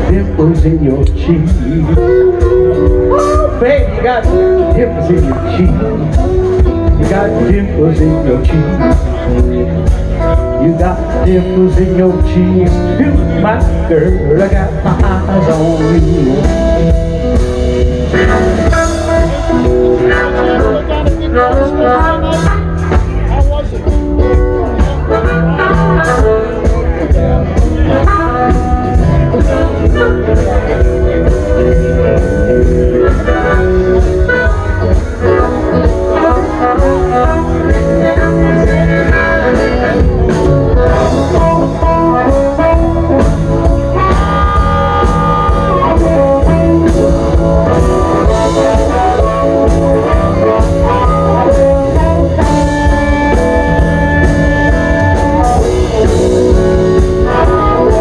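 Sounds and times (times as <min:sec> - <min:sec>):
bass: 0:00.0 - 0:58.0
drum kit: 0:00.0 - 0:58.0
electric guitar: 0:00.0 - 0:58.0.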